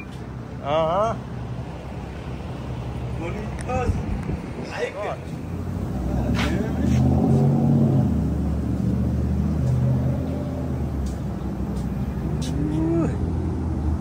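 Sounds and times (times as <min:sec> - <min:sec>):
motor vehicle humming: 0:00.0 - 0:14.0.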